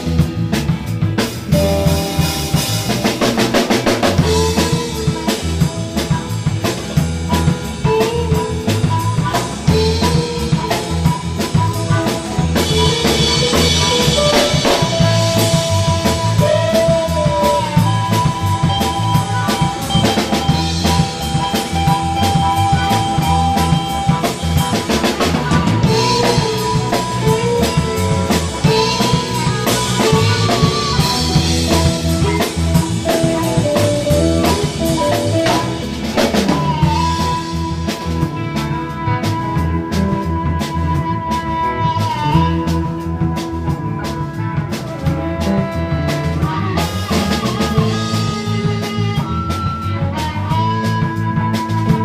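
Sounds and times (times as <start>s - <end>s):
blues band playing: 0.0s - 52.0s
drum kit beat: 0.0s - 52.0s.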